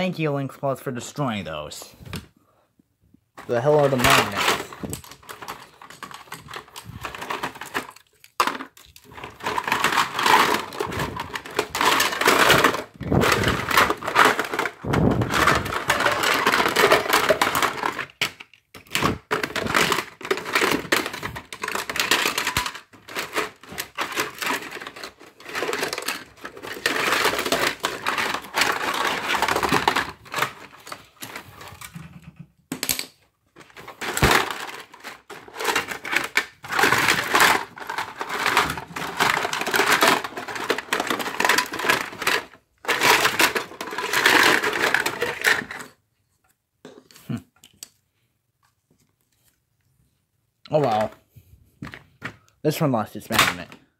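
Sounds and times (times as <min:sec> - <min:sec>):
hard plastic pieces clattering: 0:03.4 - 0:46.0, 0:50.7 - 0:53.9.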